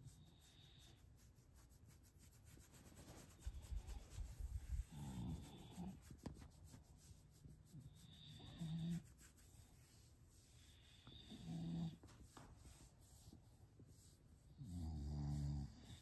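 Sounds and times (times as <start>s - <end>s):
hand rubbing dog fur: 0.0s - 16.0s.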